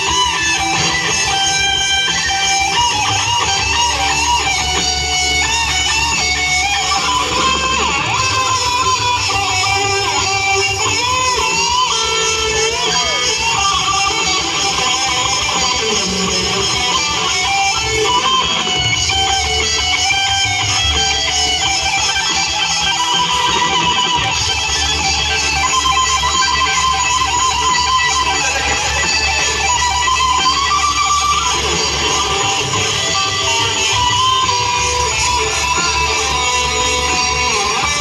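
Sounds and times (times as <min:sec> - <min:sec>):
electric guitar melody: 0:00.0 - 0:38.0
instrumental band music: 0:00.0 - 0:38.0.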